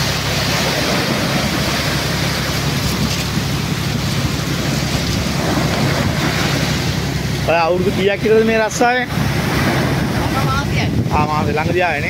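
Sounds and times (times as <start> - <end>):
wind on microphone: 0.0 - 7.5, 8.3 - 12.0
surf breaking on shore: 0.0 - 12.0
tractor engine drone: 0.0 - 12.0.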